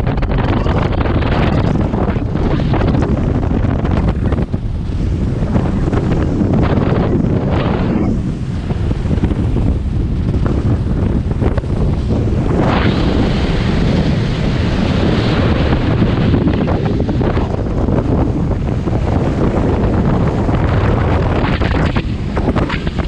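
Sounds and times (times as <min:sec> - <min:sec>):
water rushing against hull: 0:00.0 - 0:23.0
wind buffeting microphone: 0:00.0 - 0:23.0.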